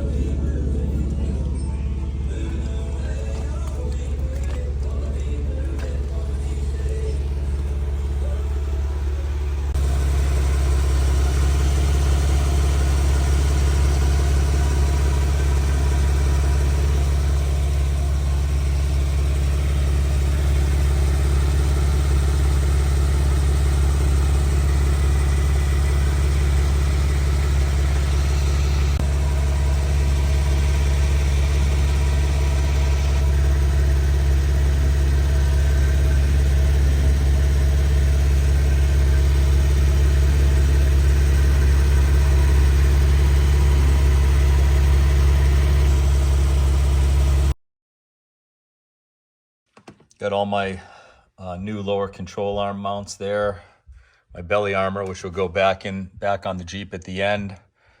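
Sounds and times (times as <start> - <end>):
car engine idling: 0.0 - 47.5.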